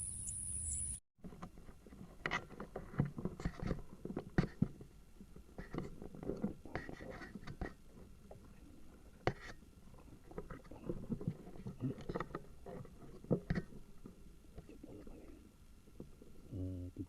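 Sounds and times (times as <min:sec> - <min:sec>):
close rustling and scraping: 0:01.2 - 0:16.5.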